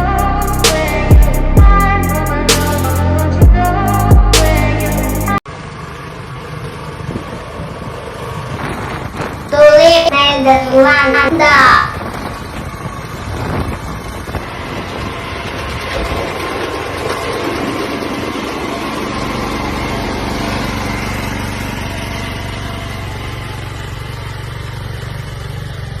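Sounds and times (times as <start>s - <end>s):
small engine humming: 0.0s - 26.0s.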